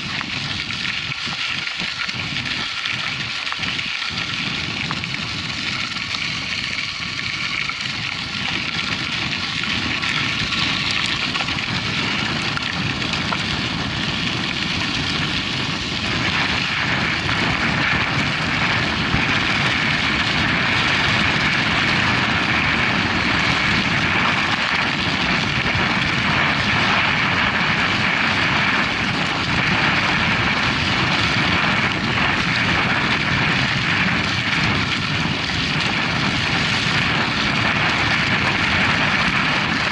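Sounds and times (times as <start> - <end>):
bike tyres rolling on trail: 0.0 - 39.9
wind on microphone: 0.0 - 39.9.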